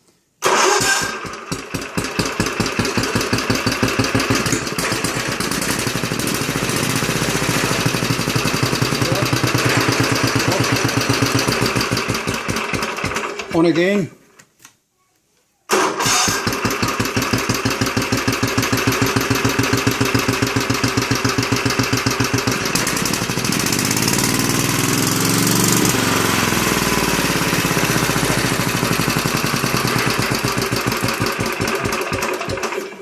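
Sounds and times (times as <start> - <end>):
small petrol engine running: 0.4 - 13.5, 15.7 - 33.0.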